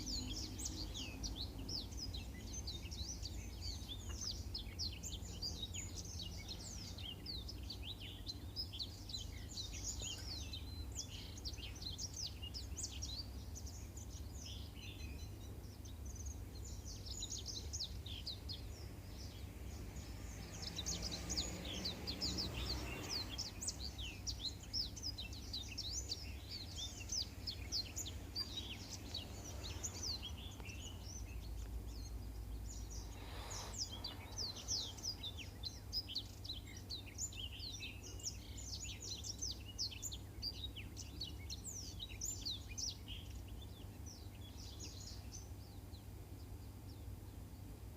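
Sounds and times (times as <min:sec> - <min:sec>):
bird twittering and trilling: 0:00.0 - 0:47.7.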